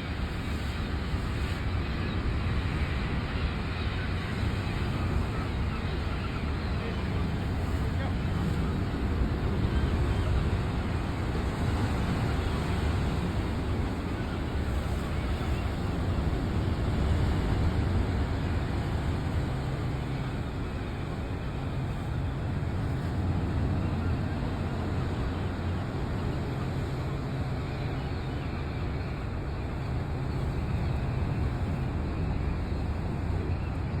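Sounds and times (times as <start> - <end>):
rough sea rumbling: 0.0 - 34.0
stormy wind: 0.0 - 34.0.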